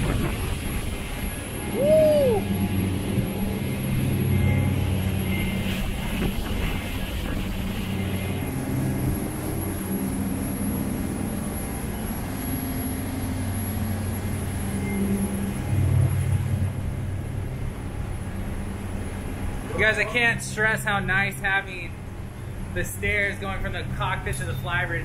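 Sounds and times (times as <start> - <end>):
wake water rushing: 0.0 - 24.0
boat diesel engines droning: 0.0 - 25.0
wind: 0.0 - 25.0.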